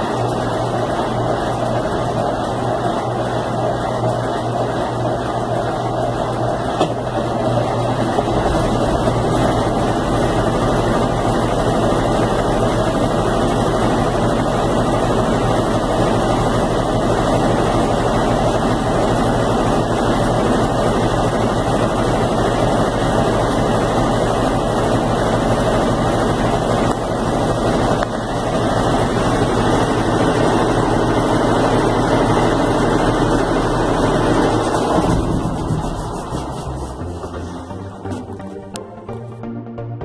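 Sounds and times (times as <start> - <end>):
washing machine spinning: 0.0 - 39.4.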